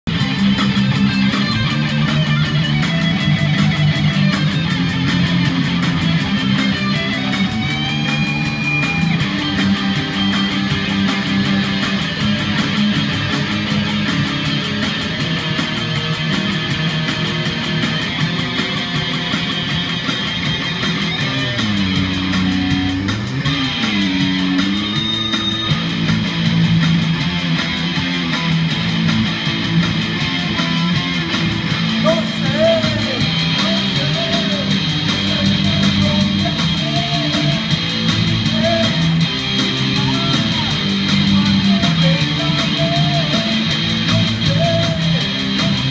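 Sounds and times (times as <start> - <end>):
heavy metal electric guitars: 0.0 - 45.9
bent high guitar notes: 0.1 - 45.9.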